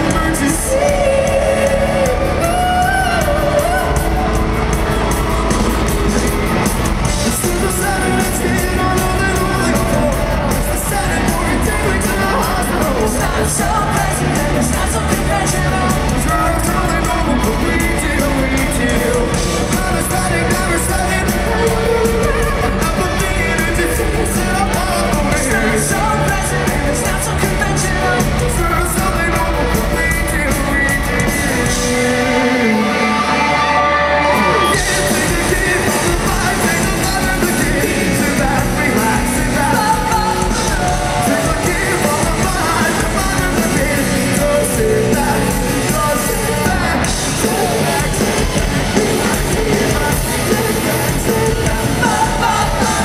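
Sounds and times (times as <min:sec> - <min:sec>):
man singing into microphone: 0:00.0 - 0:04.4, 0:07.2 - 0:53.0
rock band playing live: 0:00.0 - 0:53.0.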